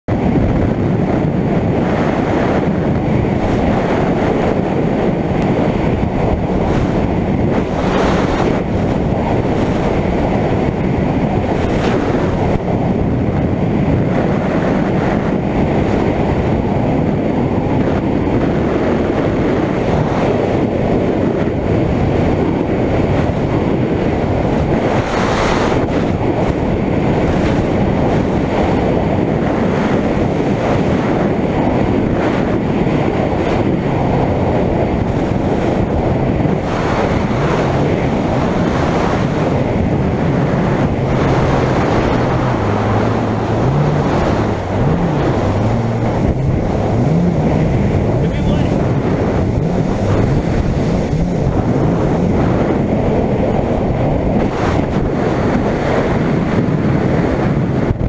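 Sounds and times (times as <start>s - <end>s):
watercraft engine drone: 0.0s - 58.0s
wind rumble on microphone: 0.0s - 58.0s
water rushing: 0.1s - 20.6s, 21.4s - 56.7s.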